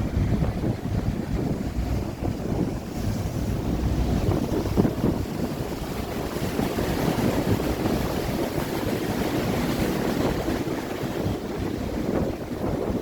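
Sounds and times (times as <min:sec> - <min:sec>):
boat engine and water rush: 0:00.0 - 0:13.0
wind buffeting microphone: 0:00.0 - 0:13.0.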